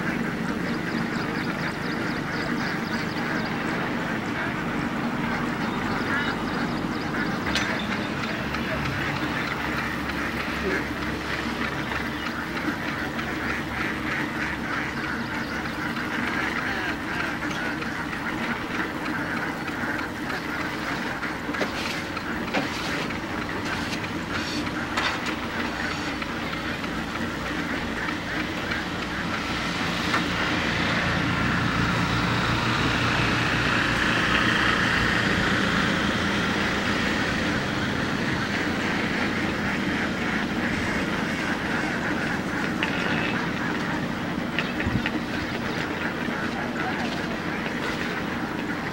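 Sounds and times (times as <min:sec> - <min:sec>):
ducks quacking: 0:00.0 - 0:48.9.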